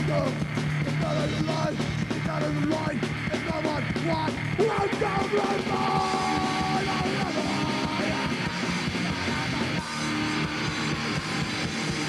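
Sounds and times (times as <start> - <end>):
bass guitar: 0.0 - 12.0
distorted electric guitars: 0.0 - 12.0
drums: 0.0 - 12.0.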